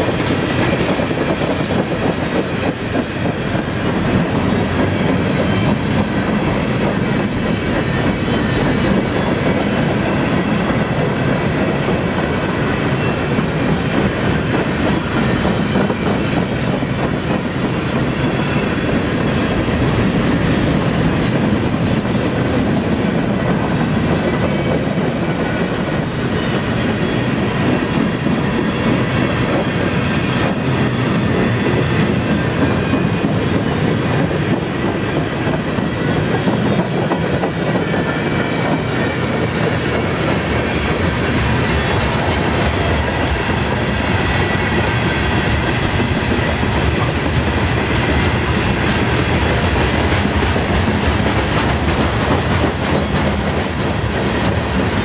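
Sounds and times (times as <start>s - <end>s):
freight train wheels rumbling on rail: 0.0s - 55.0s
rhythmic clicking over rail joints: 0.0s - 55.0s.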